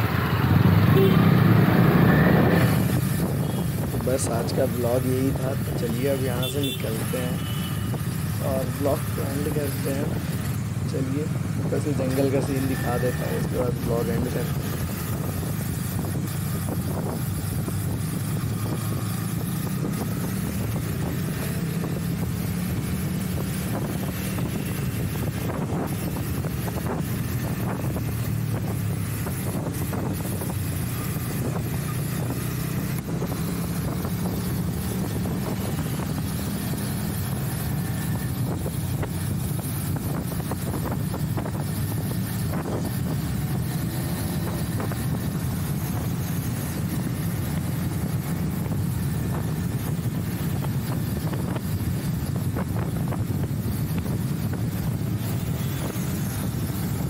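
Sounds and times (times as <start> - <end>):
wind on microphone: 0.0 - 6.2, 7.8 - 57.0
motorcycle engine droning: 0.0 - 57.0.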